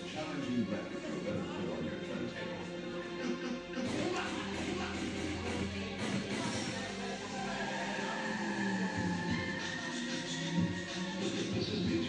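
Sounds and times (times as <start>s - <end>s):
music playing: 0.0s - 12.0s.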